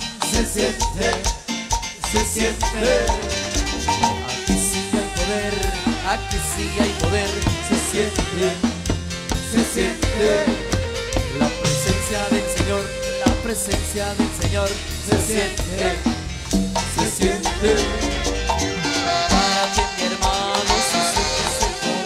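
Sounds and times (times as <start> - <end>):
drum kit and timbales: 0.0 - 22.0
live band dance music: 0.0 - 22.0.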